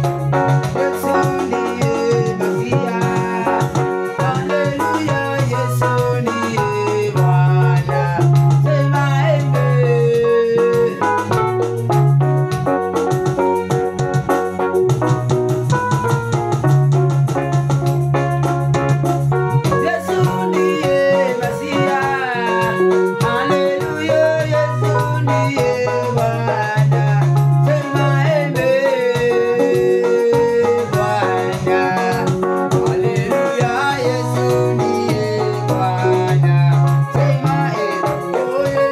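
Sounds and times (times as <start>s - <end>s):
upbeat praise music on keyboard: 0.0s - 38.9s.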